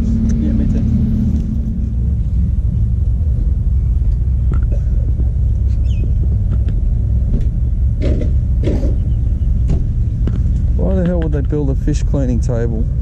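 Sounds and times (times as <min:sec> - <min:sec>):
motor rumbling: 0:00.0 - 0:13.0.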